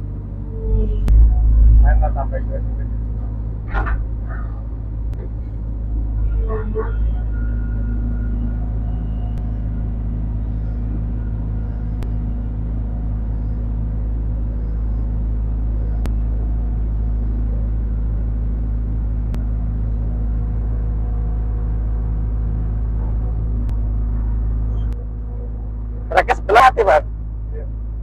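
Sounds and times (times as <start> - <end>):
diesel excavator engine running: 0.0 - 28.0.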